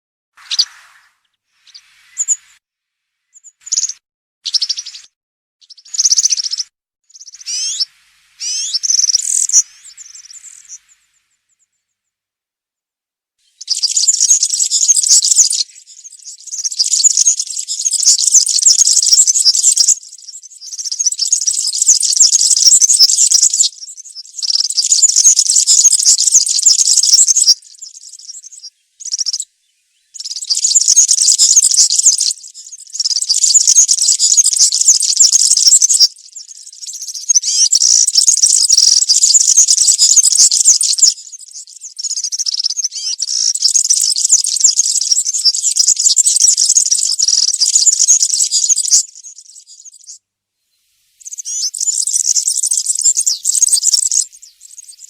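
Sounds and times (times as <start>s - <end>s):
bird singing jingling song: 0.4s - 2.6s, 3.3s - 11.8s, 13.4s - 50.2s, 51.2s - 55.0s.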